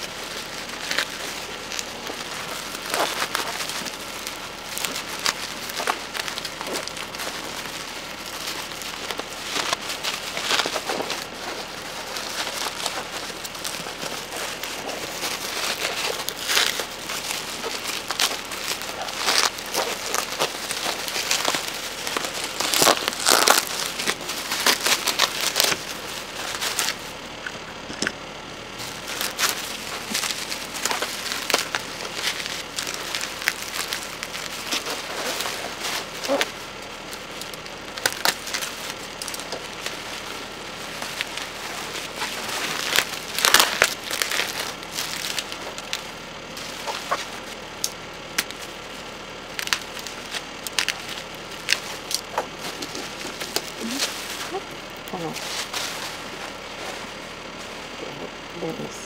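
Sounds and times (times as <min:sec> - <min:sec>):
packaging crinkling and rustling: 0:00.0 - 0:58.9.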